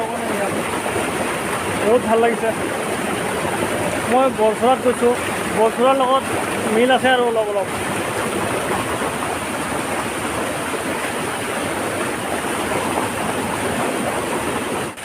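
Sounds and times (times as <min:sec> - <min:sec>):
waterfall roar: 0:00.0 - 0:15.0.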